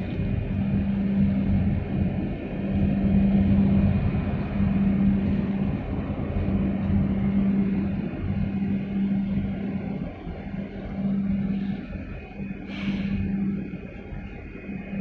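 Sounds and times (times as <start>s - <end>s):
boat engine hum: 0.0s - 15.0s.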